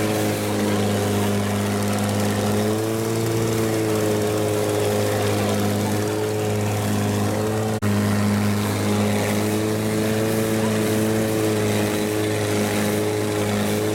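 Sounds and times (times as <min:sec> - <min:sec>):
boat engine droning: 0:00.0 - 0:13.9.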